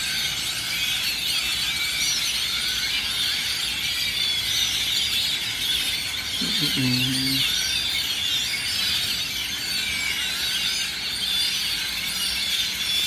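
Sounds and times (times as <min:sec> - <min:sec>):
flock of birds chattering: 0:00.0 - 0:13.0.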